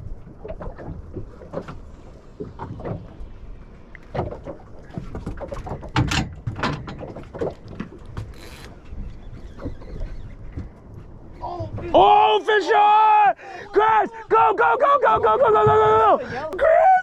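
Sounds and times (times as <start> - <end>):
knocks and clunks on boat: 0.0 - 12.2, 13.8 - 16.8
low rumble of water and wind: 0.0 - 17.0
water splashes: 0.0 - 17.0.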